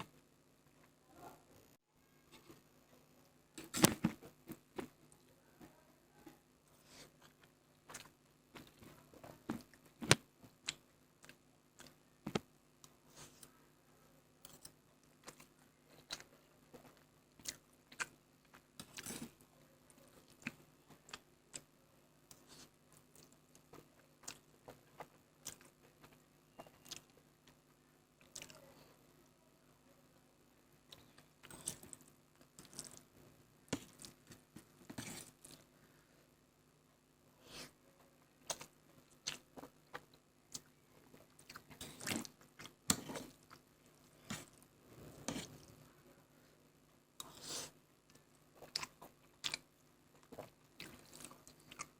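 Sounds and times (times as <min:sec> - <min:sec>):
faint low hum: 0:00.0 - 0:51.9.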